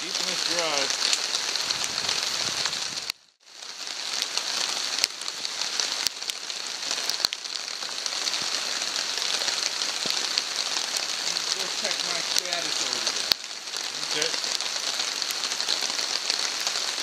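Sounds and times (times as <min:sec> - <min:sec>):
light rain on a tarp: 0:00.0 - 0:17.0
rain drops ticking: 0:00.0 - 0:17.0.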